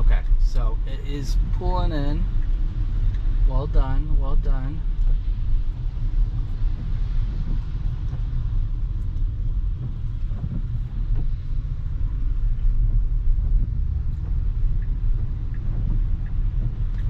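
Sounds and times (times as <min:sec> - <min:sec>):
car road rumble on wet road: 0:00.0 - 0:17.0.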